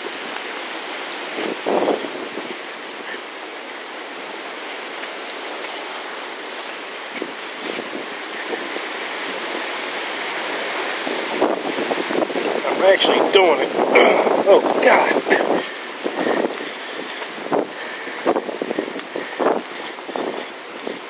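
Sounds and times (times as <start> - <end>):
hurricane wind and rain: 0.0 - 21.0
wind gust buffeting microphone: 0.0 - 21.0.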